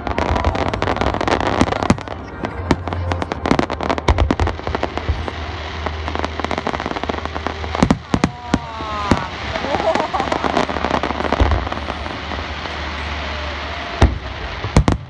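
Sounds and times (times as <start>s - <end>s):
fireworks bangs and cracks: 0.0s - 15.0s
low rumble: 0.0s - 15.0s.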